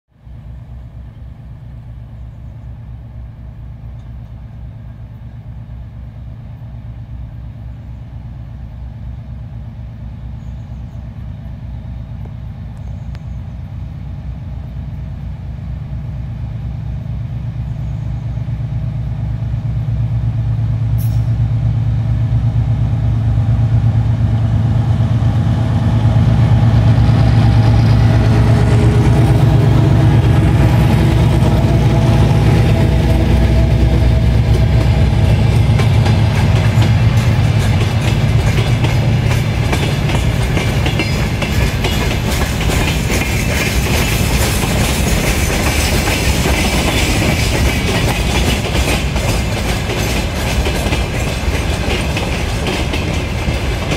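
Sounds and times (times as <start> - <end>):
diesel locomotive engine drone: 0.1 - 53.9
wheel and rail noise: 0.2 - 53.9.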